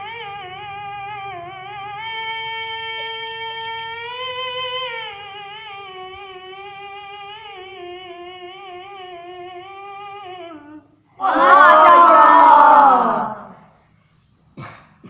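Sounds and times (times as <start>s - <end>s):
person reciting melodically: 0.0s - 13.6s.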